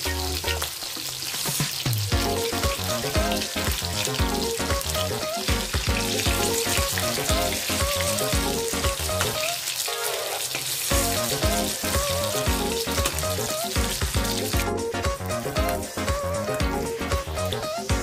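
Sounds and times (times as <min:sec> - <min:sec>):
background music with a beat: 0:00.0 - 0:09.6, 0:10.9 - 0:18.0
fish sizzling in hot oil: 0:00.0 - 0:18.0.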